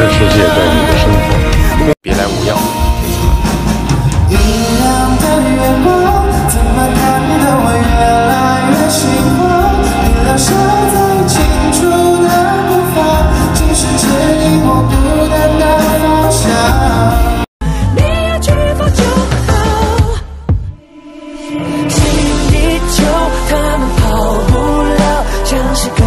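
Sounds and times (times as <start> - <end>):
person singing: 0.0 - 2.8, 4.3 - 26.0.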